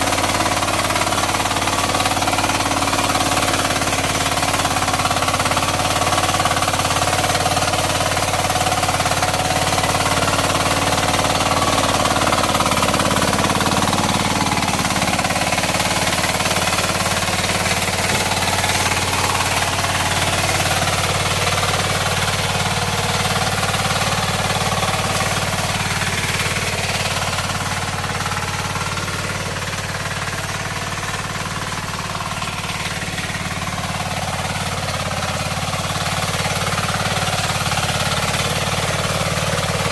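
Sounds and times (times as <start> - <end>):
diesel engine knocking under load: 0.0 - 39.9
rotary blades cutting soil: 0.0 - 39.9.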